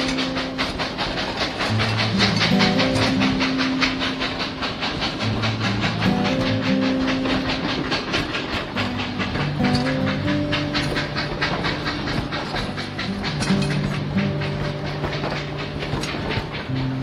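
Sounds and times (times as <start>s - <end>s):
train wheels clicking on rails: 0.0s - 17.0s.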